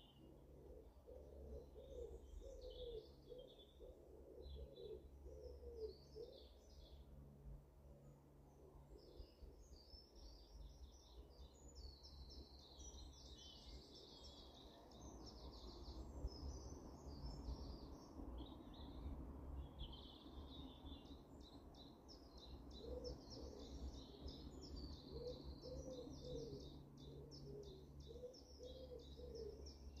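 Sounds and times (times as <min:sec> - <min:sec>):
songbirds trilling and chattering: 0:00.0 - 0:30.0.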